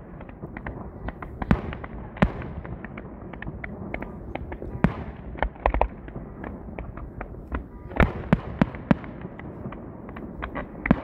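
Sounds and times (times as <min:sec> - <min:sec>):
firework bangs and crackling: 0:00.0 - 0:11.0.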